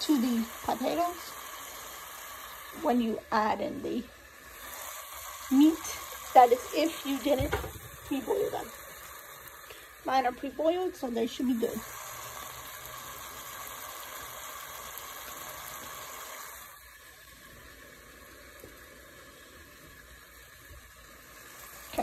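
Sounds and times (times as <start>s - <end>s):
meat and potatoes sizzling in a pot: 0.0s - 22.0s.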